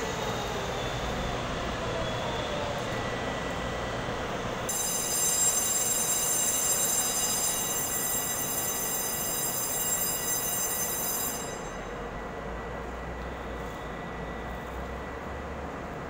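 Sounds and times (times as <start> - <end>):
electric train running: 0.0 - 16.0.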